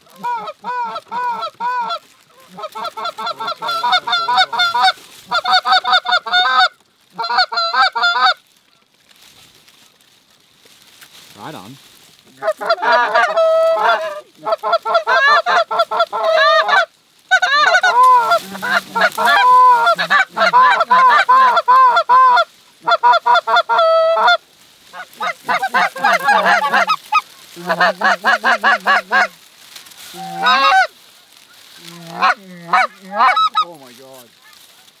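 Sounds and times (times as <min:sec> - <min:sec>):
goose honking and clucking: 0:00.0 - 0:08.9, 0:12.3 - 0:35.0.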